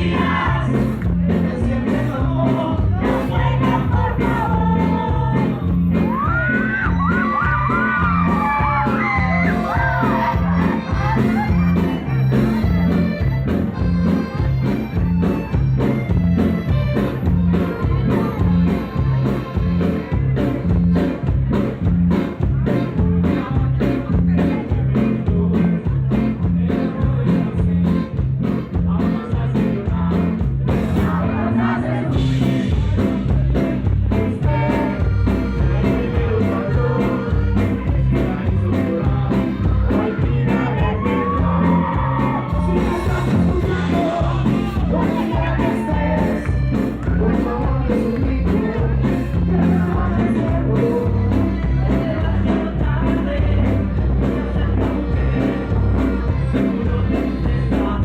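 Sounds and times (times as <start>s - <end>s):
drum beat: 0.0s - 31.2s, 32.1s - 58.0s
bass line: 0.0s - 58.0s
person singing: 0.0s - 58.0s
rock music: 0.0s - 58.0s.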